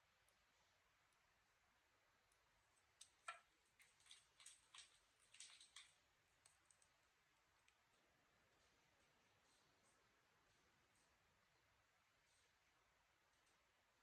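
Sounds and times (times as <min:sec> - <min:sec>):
faint clicks and rustling ticks: 0:02.3 - 0:14.0.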